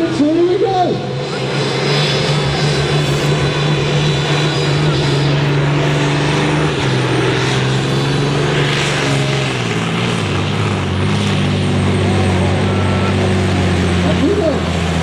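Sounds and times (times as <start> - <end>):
diesel truck engine running hard: 0.0 - 15.0.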